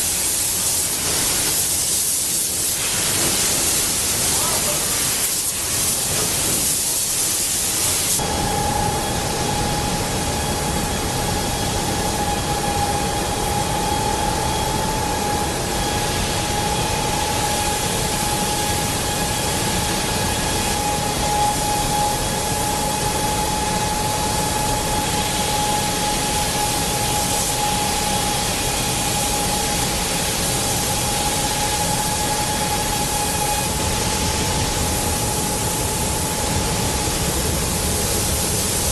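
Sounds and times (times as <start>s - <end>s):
spray hiss and rushing air: 0.0s - 8.6s, 15.5s - 38.9s
high machine whine: 0.0s - 38.9s.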